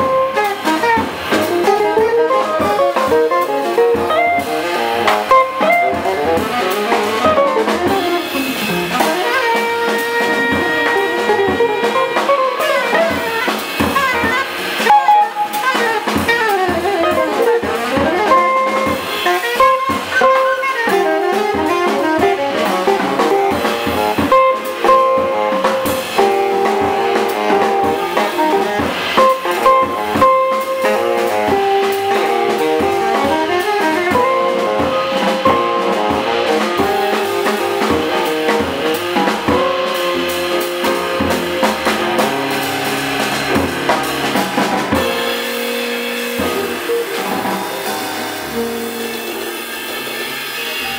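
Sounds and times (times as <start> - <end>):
upright bass: 0.0 - 45.6
drum kit: 0.0 - 50.9
electric guitar: 0.0 - 50.9
piano: 0.0 - 50.9
saxophone lead: 0.0 - 50.9.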